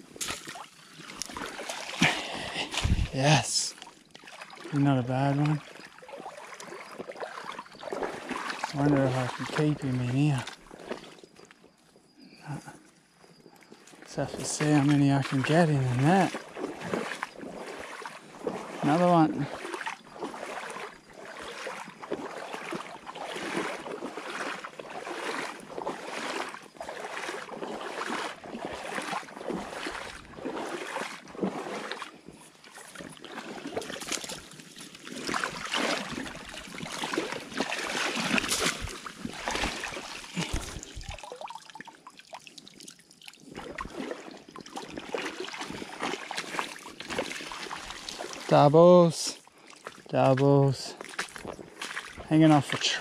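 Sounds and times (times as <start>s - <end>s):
waders sloshing through water: 0.0s - 53.0s.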